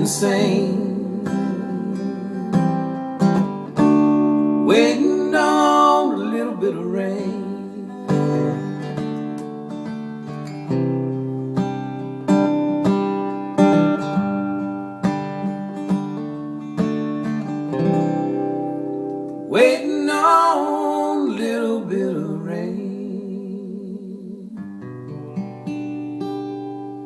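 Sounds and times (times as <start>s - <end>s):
acoustic guitar strumming chords: 0.0s - 23.3s, 24.6s - 27.0s.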